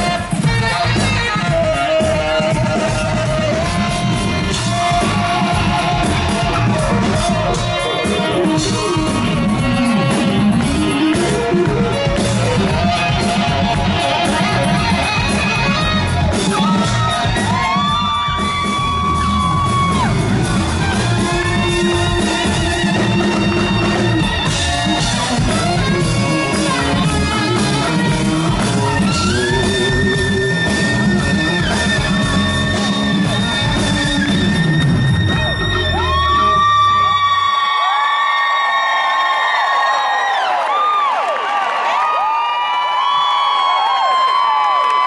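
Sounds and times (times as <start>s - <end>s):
live rock band playing: 0.0s - 37.8s
saxophone solo: 0.0s - 37.8s.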